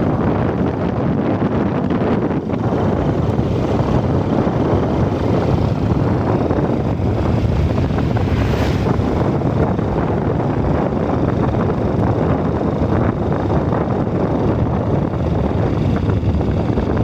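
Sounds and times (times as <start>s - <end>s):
motorcycle engine and tyres: 0.0s - 17.0s
wind buffeting microphone: 0.0s - 17.0s.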